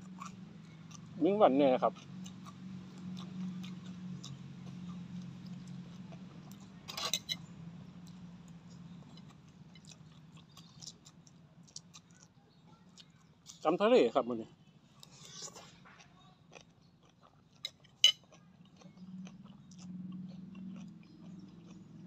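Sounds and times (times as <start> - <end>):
man chewing food: 0.0 - 1.2, 1.8 - 7.4, 8.0 - 13.6, 14.8 - 22.0.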